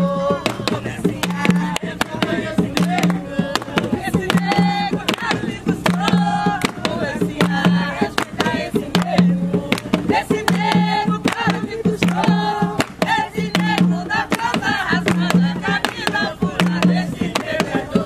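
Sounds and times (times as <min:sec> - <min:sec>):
hand drum strokes: 0:00.0 - 0:18.0
voices singing: 0:00.0 - 0:18.0.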